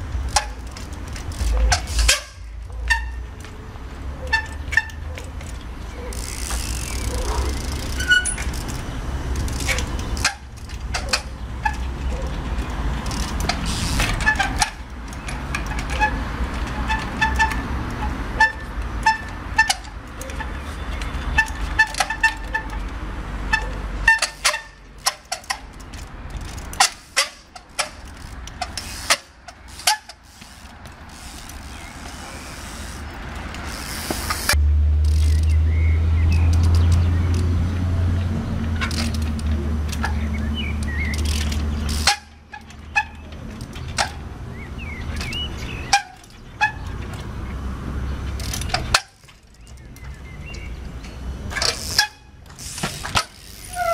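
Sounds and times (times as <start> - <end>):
low rumble of street traffic: 0.0 - 53.9.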